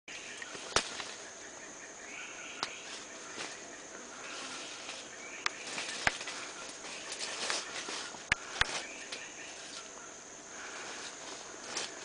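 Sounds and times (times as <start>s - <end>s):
forest insects droning: 0.1s - 12.0s.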